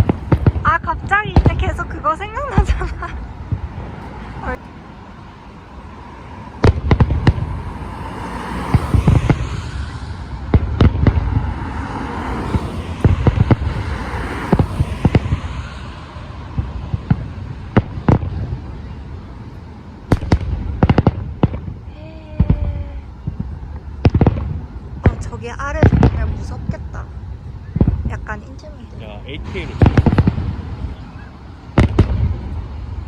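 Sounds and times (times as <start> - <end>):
dense crackling noise: 0.0 - 33.0
fireworks booming: 0.0 - 33.0.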